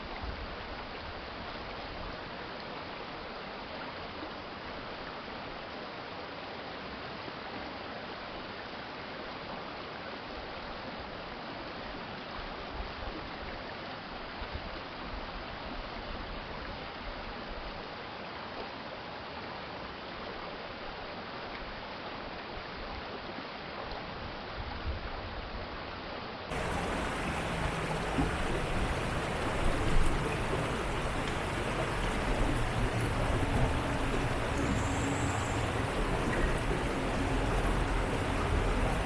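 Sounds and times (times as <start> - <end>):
stream flowing: 0.0 - 24.6, 25.4 - 39.0.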